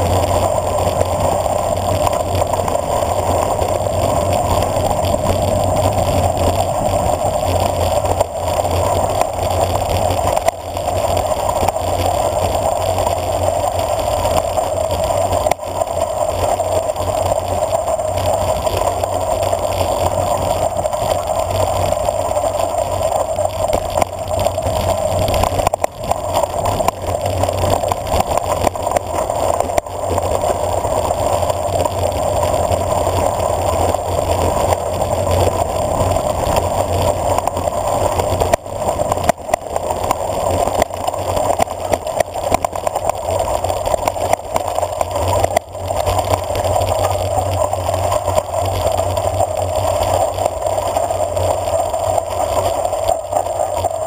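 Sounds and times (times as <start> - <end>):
tyres rolling on gravel: 0.0 - 54.0
wind rushing over camera: 0.0 - 54.0.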